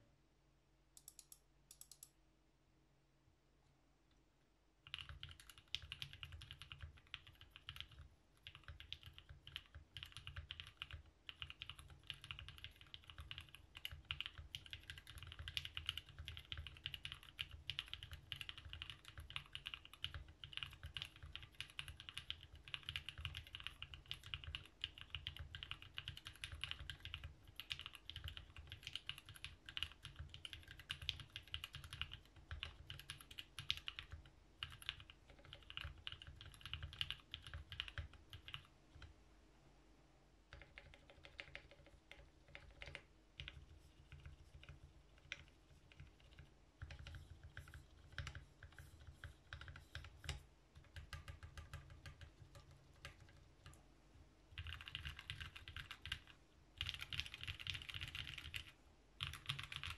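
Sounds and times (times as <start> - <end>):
mechanical keyboard typing: 1.0 - 2.1, 4.8 - 39.1, 40.5 - 53.8, 54.5 - 59.9.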